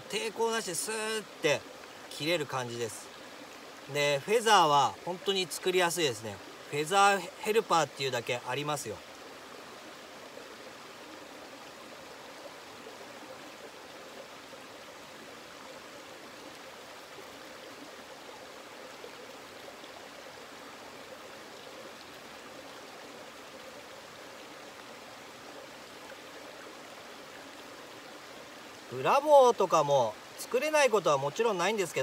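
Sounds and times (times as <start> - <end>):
flowing water: 0.0 - 32.0.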